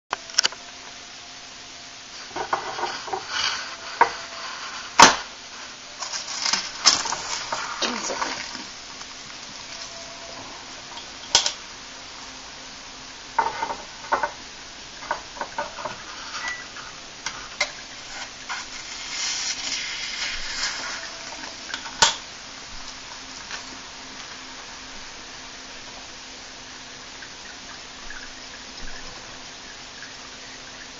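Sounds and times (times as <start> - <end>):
fizzing hiss: 1.8 - 27.4.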